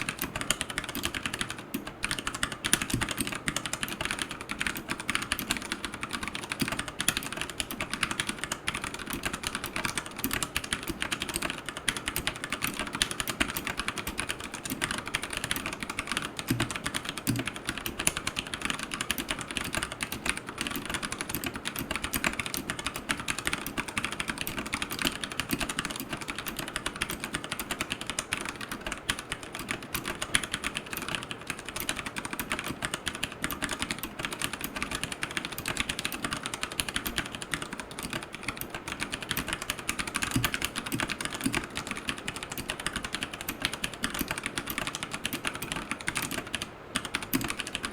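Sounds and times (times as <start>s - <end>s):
mechanical keyboard typing: 0.0s - 47.9s.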